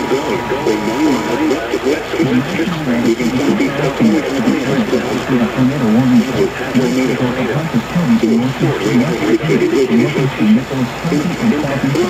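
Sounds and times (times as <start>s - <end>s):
computer voices talking over one another: 0.0s - 12.0s.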